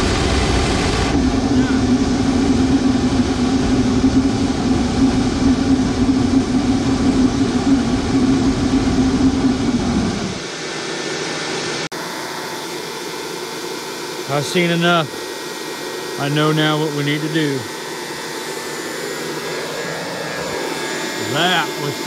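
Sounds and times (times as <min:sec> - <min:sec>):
blower whirring: 0:00.0 - 0:22.0
furnace burner roaring: 0:00.0 - 0:22.0.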